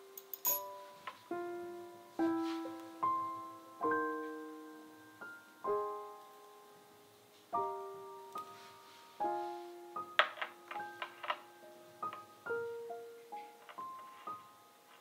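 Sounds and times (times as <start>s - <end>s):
soft slow piano chords: 0.0s - 15.0s.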